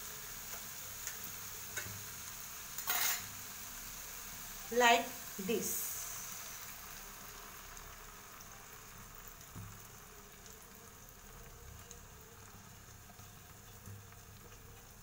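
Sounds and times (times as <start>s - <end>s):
egg sizzling in a pan: 0.0s - 15.0s.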